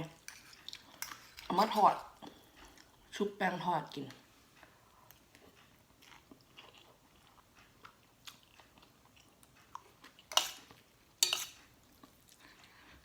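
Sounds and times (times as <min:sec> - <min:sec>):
person chewing food: 0:00.3 - 0:01.5, 0:02.2 - 0:03.1, 0:04.5 - 0:13.0.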